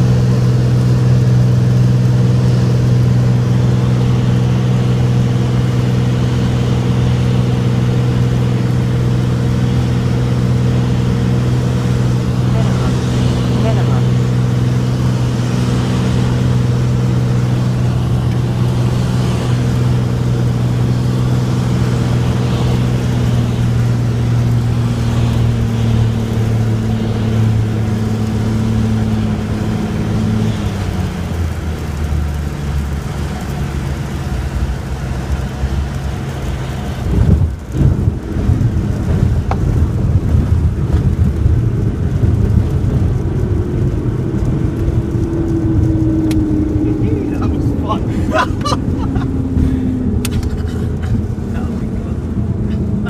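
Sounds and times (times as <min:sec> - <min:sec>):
propeller plane engine droning: 0:00.0 - 0:53.0
wheels rumbling on runway: 0:00.0 - 0:53.0.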